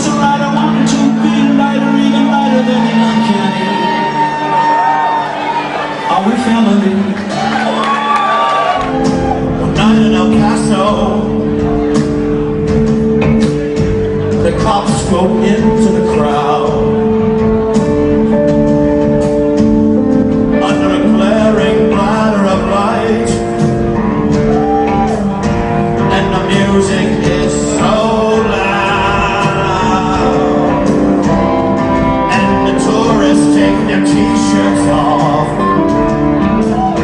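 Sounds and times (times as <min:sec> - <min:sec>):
person singing: 0:00.0 - 0:05.2, 0:08.8 - 0:19.7, 0:20.5 - 0:37.0
rock band playing live: 0:00.0 - 0:37.0.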